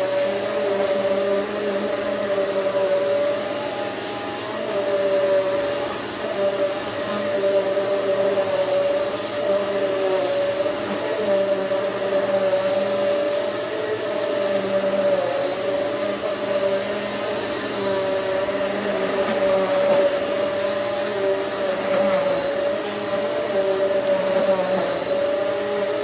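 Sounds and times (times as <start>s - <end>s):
vacuum cleaner running on carpet: 0.0s - 26.0s.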